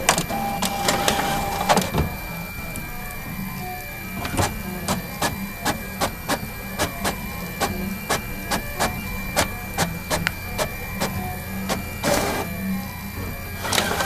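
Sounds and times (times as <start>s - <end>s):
printer mechanism clicking: 0.0s - 3.2s, 4.1s - 12.6s, 13.6s - 14.0s
high steady whine: 0.0s - 14.0s.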